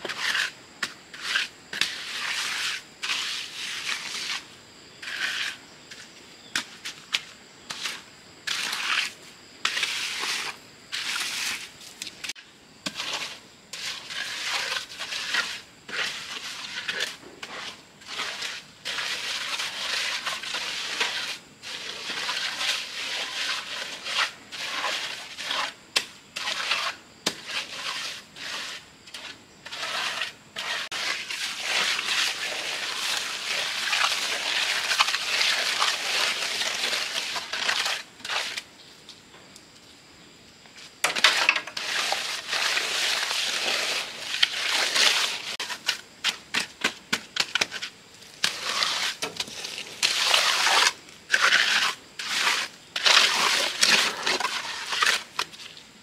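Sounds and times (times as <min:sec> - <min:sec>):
gritty scraping and crunching: 0:00.0 - 0:38.7, 0:40.8 - 0:56.0.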